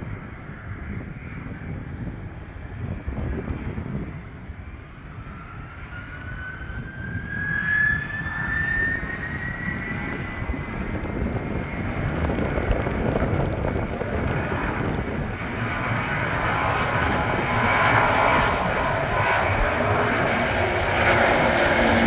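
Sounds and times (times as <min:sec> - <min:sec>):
jet engines whining: 0:00.0 - 0:22.0.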